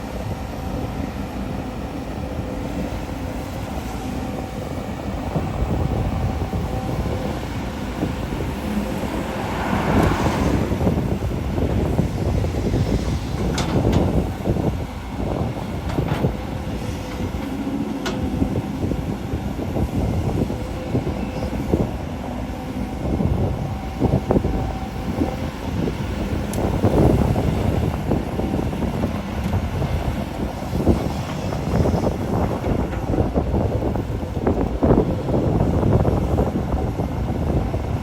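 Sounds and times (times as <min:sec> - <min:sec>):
excavator diesel engine: 0:00.0 - 0:37.9.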